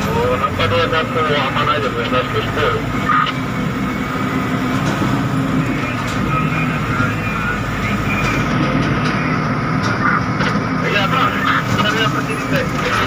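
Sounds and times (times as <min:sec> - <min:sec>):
diesel truck engine droning: 0:00.0 - 0:13.0
road rumble: 0:00.0 - 0:13.0.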